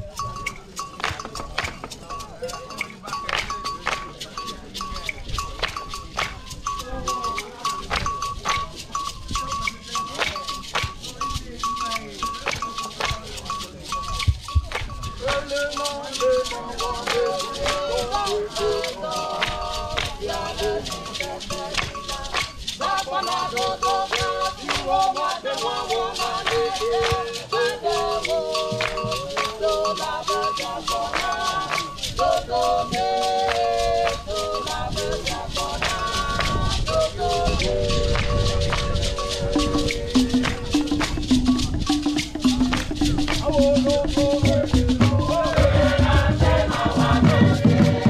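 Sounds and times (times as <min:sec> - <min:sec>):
drums and rattling percussion: 0:00.0 - 0:48.0
group singing together: 0:00.0 - 0:48.0.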